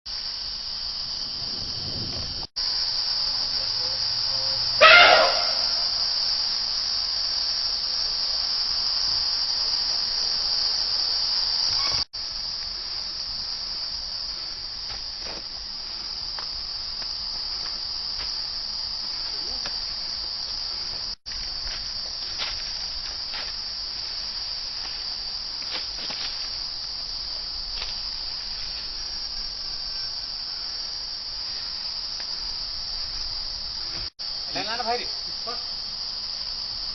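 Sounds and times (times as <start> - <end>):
insects chirping: 0.1 - 36.9.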